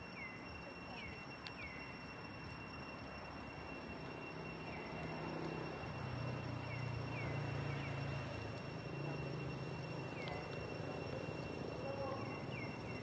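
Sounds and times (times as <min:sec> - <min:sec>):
high-pitched insect drone: 0:00.0 - 0:13.0
low hum: 0:00.0 - 0:13.0.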